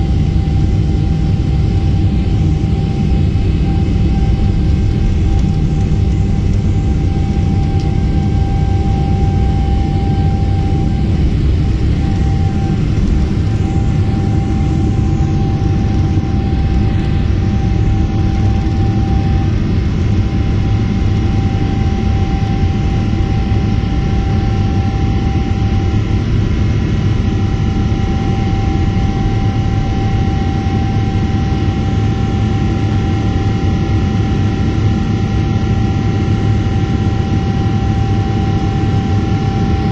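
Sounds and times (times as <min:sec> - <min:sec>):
jet engines rumbling with fan tone: 0:00.0 - 0:39.9.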